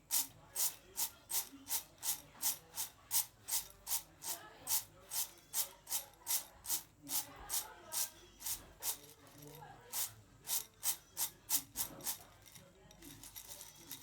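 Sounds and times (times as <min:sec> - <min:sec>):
peanuts being rubbed: 0:00.0 - 0:14.0.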